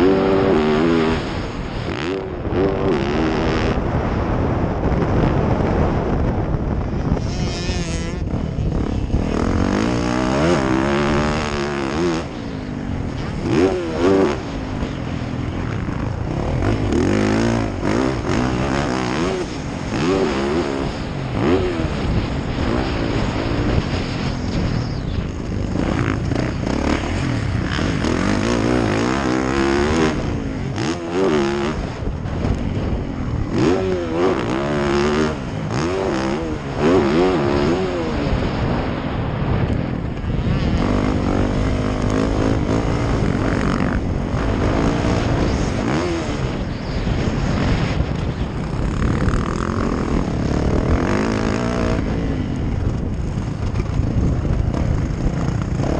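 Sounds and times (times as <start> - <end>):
dirt bike engine revving: 0.0 - 5.2, 7.1 - 55.9.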